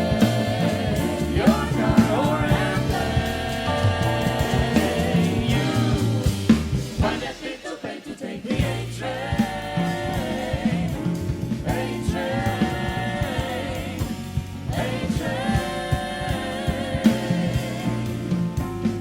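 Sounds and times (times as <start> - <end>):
bass line: 0.0 - 7.6, 8.5 - 19.0
steady beat: 0.0 - 18.7
vocal group singing close harmony: 0.0 - 19.0.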